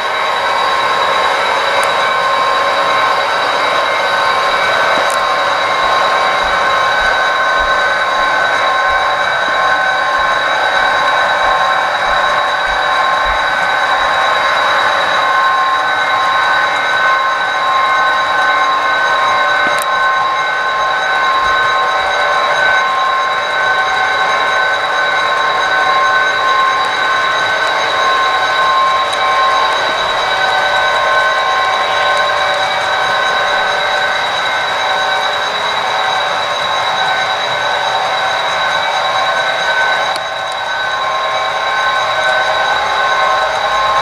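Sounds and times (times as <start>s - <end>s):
model train running with high hum: 0.0s - 44.0s.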